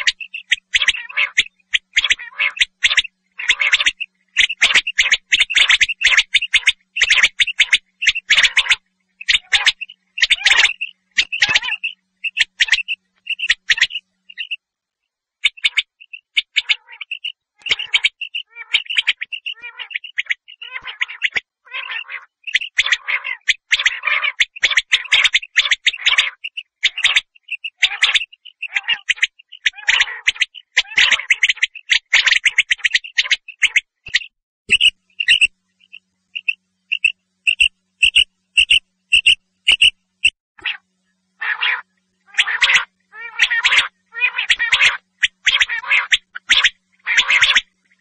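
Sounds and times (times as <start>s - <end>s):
quail calling: 0.0s - 14.6s, 15.4s - 40.0s, 40.6s - 40.8s, 41.4s - 48.0s.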